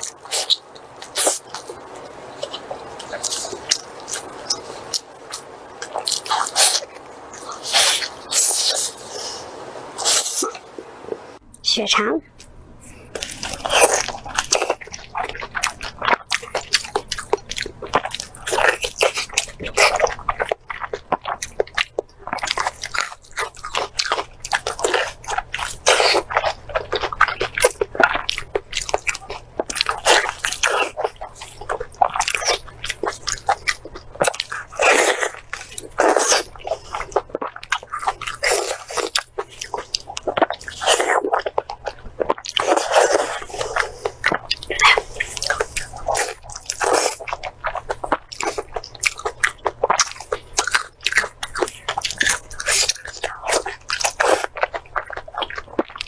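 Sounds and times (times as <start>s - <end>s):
wet chewing sounds: 0.0s - 11.3s, 12.3s - 56.0s.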